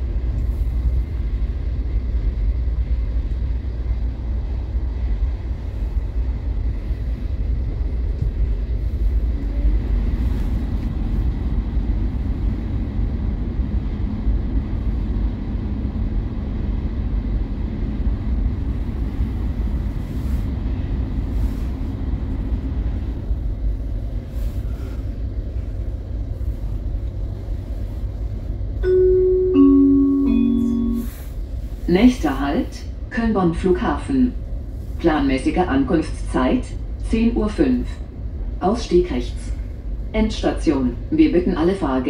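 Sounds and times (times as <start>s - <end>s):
train rumble inside carriage: 0.0s - 42.0s.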